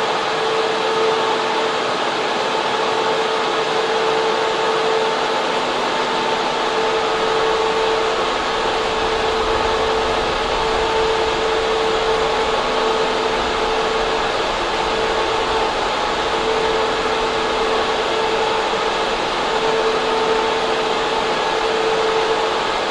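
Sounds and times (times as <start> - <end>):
constant hum: 0.0 - 22.9
cooling fans rushing air: 0.0 - 22.9.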